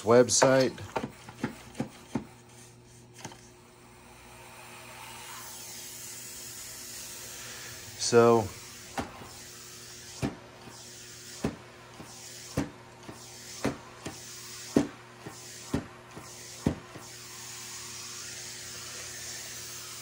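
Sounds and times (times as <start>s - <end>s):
steam mop hum and hiss: 0.0s - 20.0s
steam mop pulsing: 0.0s - 20.0s.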